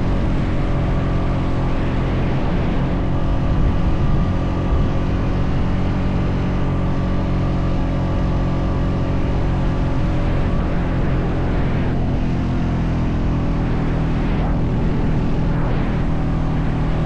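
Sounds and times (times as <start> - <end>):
atv engine running under load: 0.0 - 17.0.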